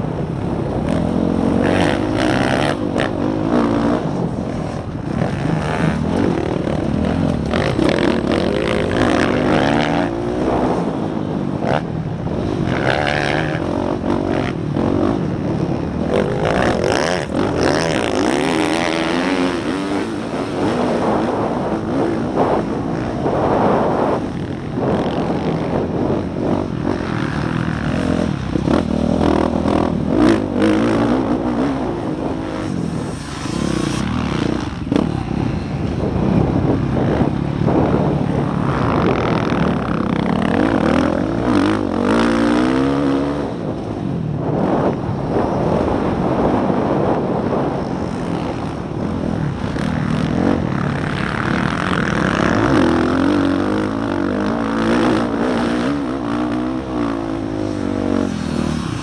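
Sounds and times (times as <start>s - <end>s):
motorbike engine revving: 0.0s - 44.9s, 45.6s - 59.0s
wind noise on microphone: 0.0s - 59.0s.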